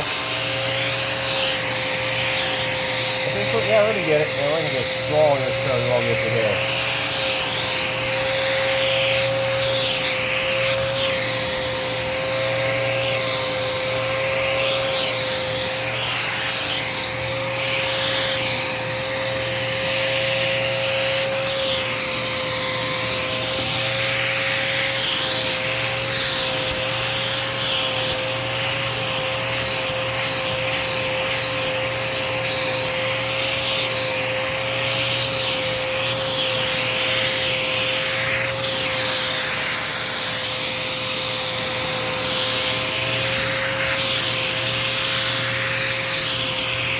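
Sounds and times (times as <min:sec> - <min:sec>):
vacuum cleaner motor whine: 0:00.0 - 0:46.9
vacuum tool rubbing fabric: 0:00.0 - 0:46.9.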